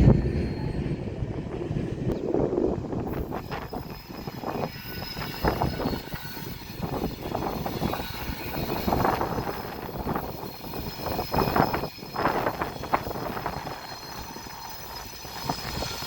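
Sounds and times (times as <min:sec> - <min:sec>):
train wheels clattering: 0:03.0 - 0:16.0.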